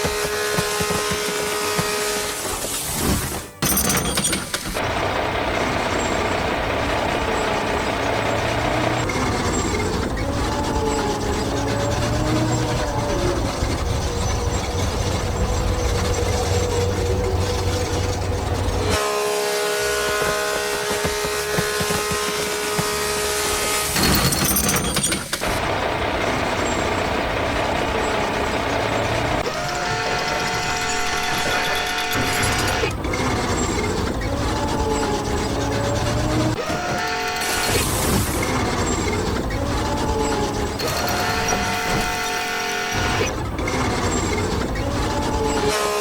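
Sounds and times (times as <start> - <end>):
heavy vehicle engine running: 4.6 - 46.0.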